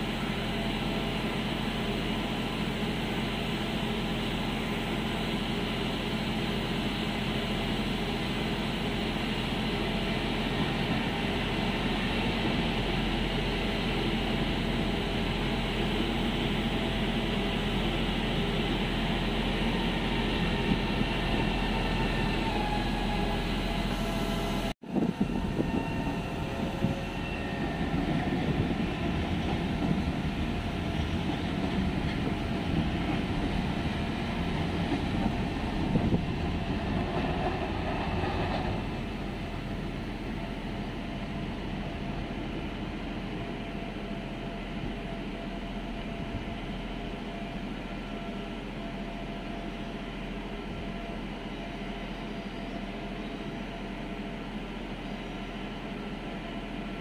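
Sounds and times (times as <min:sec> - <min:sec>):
train wheels rumbling: 0:08.9 - 0:57.0.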